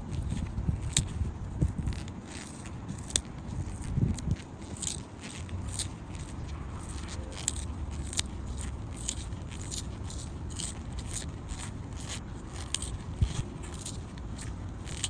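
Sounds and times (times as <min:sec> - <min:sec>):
blade scraping pencil: 0:00.0 - 0:15.0.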